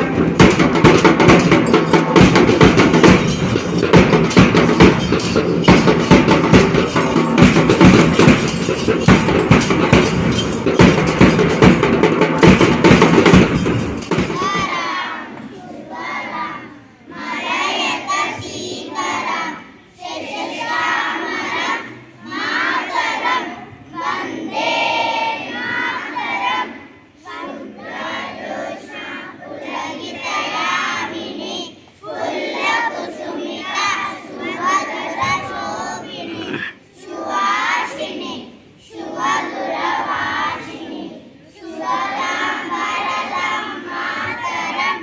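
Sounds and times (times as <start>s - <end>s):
children's voices in unison: 0.0s - 45.0s.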